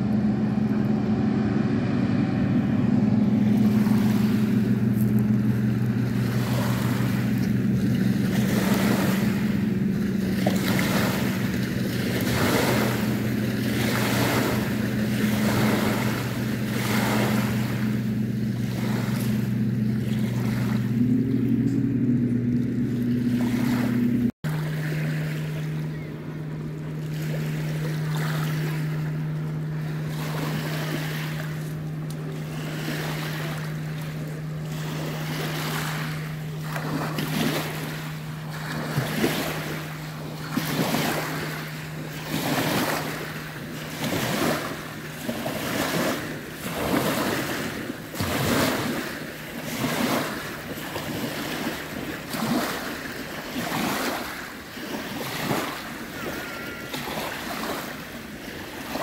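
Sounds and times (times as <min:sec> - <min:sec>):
steady low drone: 0:00.0 - 0:53.6.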